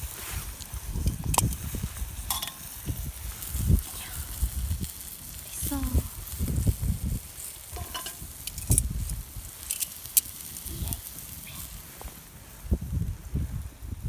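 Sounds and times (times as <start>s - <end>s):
sharp pops and crackles: 0.0s - 13.6s
stew sizzling in a skillet: 0.0s - 14.0s.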